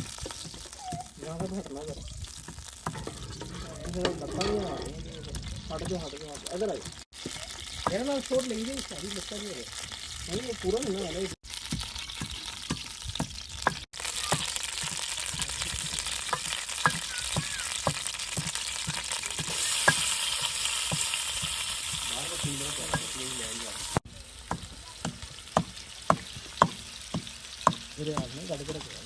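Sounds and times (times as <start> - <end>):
food sizzling in hot oil: 0.0 - 29.0.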